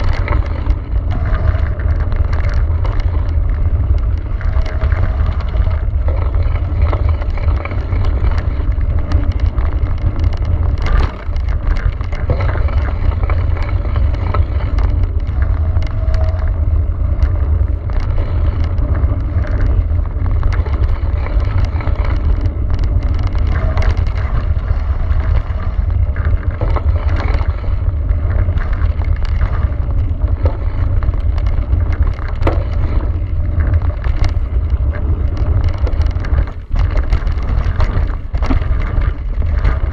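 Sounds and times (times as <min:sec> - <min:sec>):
bike and stones rattling: 0:00.0 - 0:39.9
tyres rolling on gravel: 0:00.0 - 0:39.9
wind rumble on microphone: 0:00.0 - 0:39.9.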